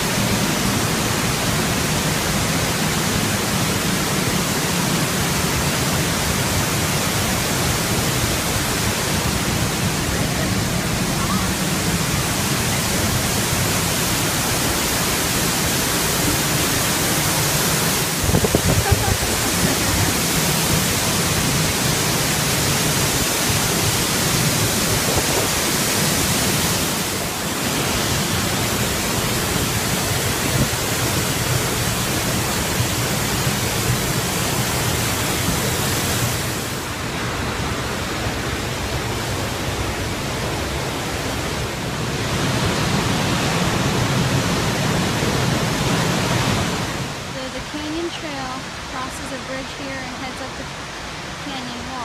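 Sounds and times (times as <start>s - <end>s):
waterfall roar: 0.0s - 52.0s.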